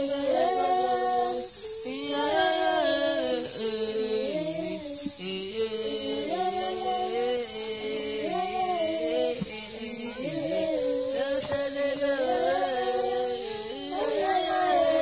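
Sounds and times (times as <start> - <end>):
steady high hiss: 0.0 - 15.0
voices singing polyphony unaccompanied: 0.0 - 15.0.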